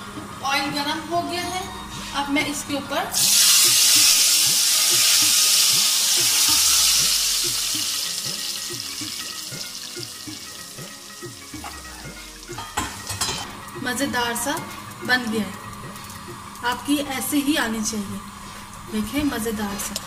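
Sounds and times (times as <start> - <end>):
hot oil sizzling and bubbling: 3.2 - 20.0.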